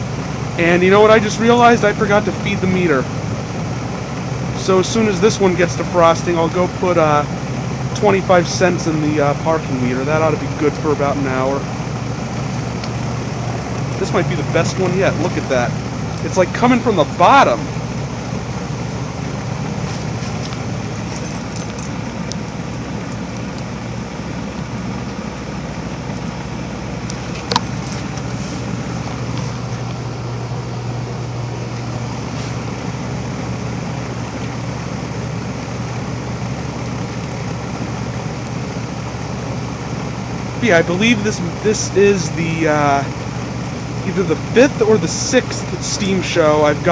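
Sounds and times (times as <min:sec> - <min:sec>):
heat pump humming: 0:00.0 - 0:46.9.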